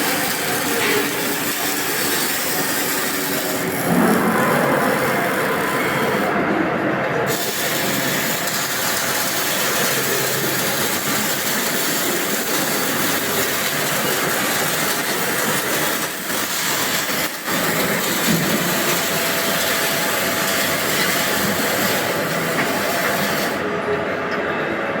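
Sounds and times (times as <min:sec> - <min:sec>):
welding arc crackling and hissing: 0:00.0 - 0:06.4, 0:07.2 - 0:23.6.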